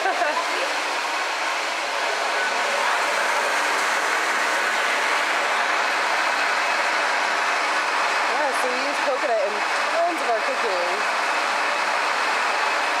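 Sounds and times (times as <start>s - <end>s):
electric coconut grater running: 0.0s - 13.0s.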